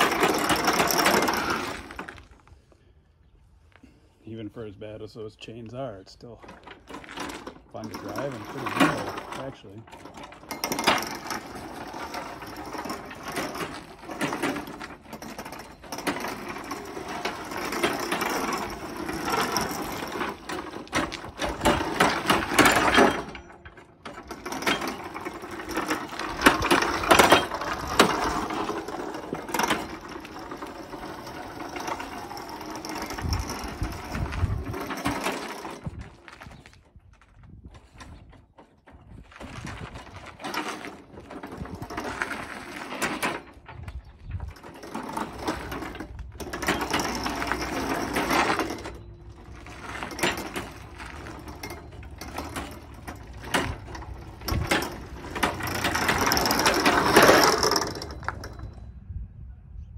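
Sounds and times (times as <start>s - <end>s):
roller chains clattering: 0.0s - 2.7s, 5.8s - 59.0s
electric motors driving: 6.5s - 36.8s, 38.9s - 58.9s.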